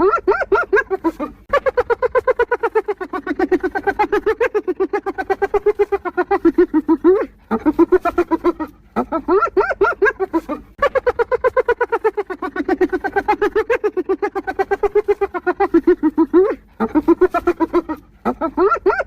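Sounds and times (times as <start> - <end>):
hyena giggling: 0.0 - 19.0.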